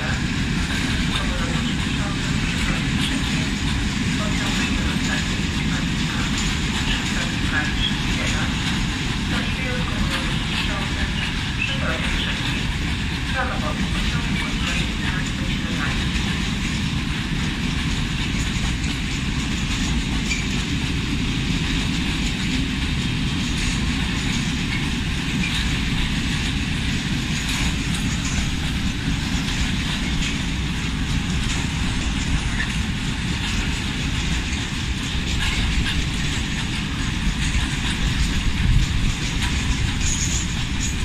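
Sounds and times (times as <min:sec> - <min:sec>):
train wheels rumbling on rails: 0:00.0 - 0:41.0
wheels clicking over rail joints: 0:00.0 - 0:41.0.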